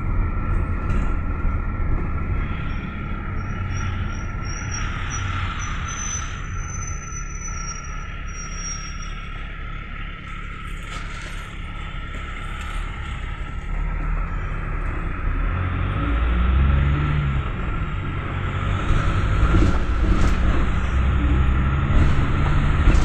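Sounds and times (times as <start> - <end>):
minibus engine and road rumble: 0.0 - 23.0.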